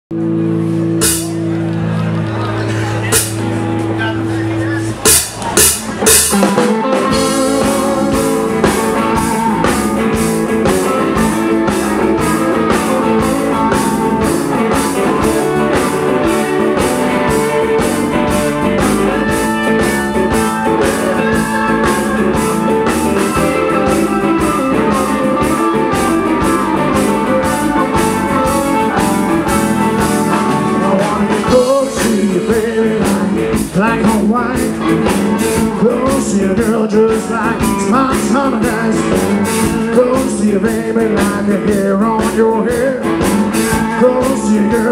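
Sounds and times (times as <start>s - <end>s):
electric guitars: 0.1s - 44.9s
steady drum beat: 0.8s - 1.6s, 3.0s - 44.9s.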